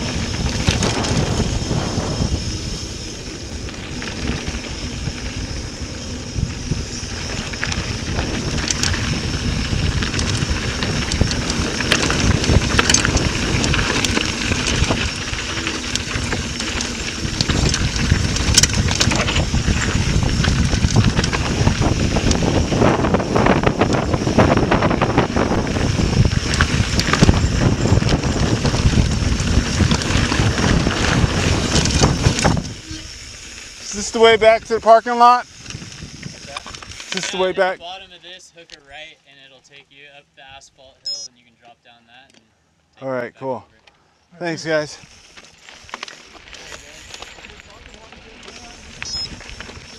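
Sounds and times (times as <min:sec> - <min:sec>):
bike clicking and rattling: 0:00.0 - 0:37.7, 0:43.9 - 0:49.9
tyres crunching on gravel: 0:00.0 - 0:37.8, 0:44.4 - 0:49.9
wind buffeting microphone: 0:00.0 - 0:37.9, 0:46.4 - 0:49.9.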